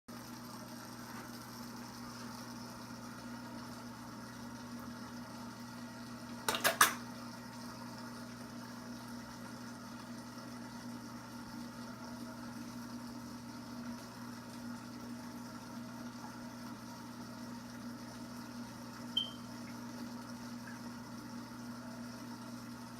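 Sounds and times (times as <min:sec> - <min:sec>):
aquarium equipment humming: 0:00.1 - 0:22.9.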